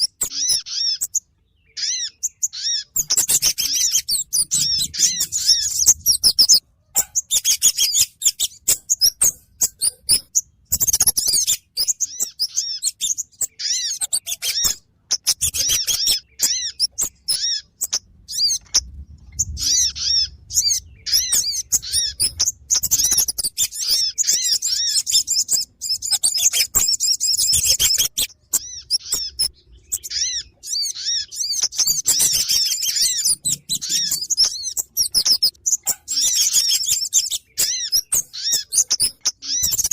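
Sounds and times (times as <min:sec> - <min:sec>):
high-pitched bird chirps: 0:00.0 - 0:39.9.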